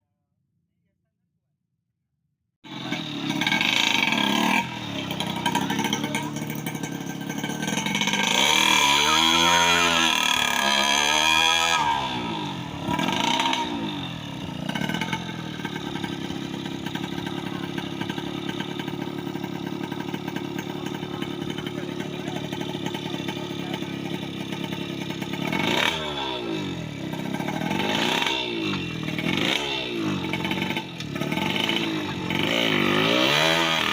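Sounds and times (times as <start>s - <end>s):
two-stroke engine revving and idling: 2.6s - 33.9s.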